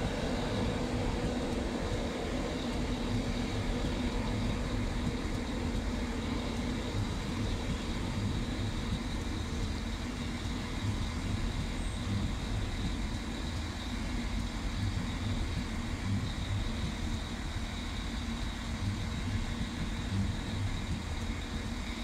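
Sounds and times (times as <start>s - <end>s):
electric hum: 0.0s - 22.0s
train coaches rumbling over rails: 0.0s - 22.0s.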